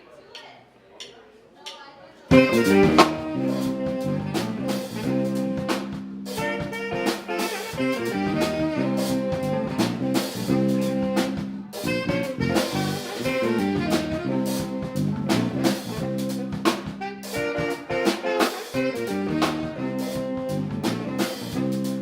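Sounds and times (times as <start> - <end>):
busy drum kit: 1.7 - 22.0
funk band playing: 2.3 - 22.0
horn lines: 2.3 - 22.0.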